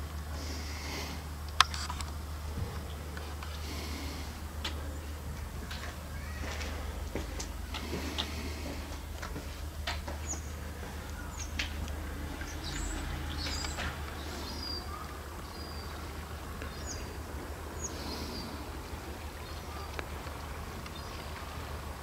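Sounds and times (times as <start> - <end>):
birds chirping: 0.0 - 22.0
steady low hum: 0.0 - 22.0.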